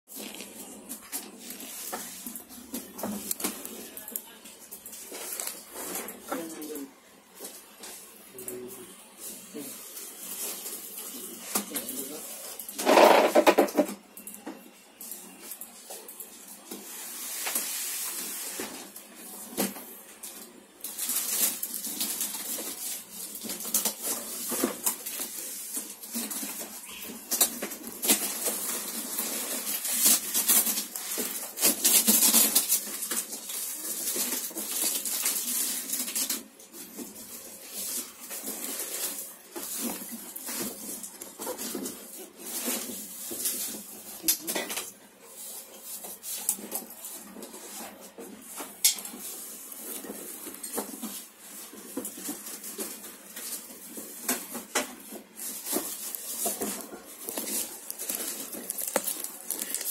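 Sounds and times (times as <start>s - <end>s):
plastic wrap crinkling: 0.1s - 14.2s, 14.9s - 59.9s.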